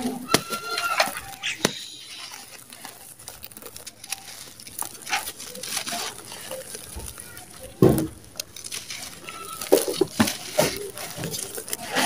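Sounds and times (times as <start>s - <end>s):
falling grains sprinkling: 0.0s - 12.0s
sand-cement clumps crunching in hands: 0.0s - 12.0s
sharp crack: 0.0s - 12.0s.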